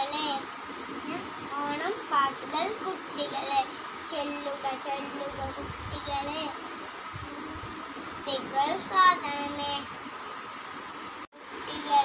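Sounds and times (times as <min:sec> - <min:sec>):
faint background hum: 0:00.0 - 0:12.0.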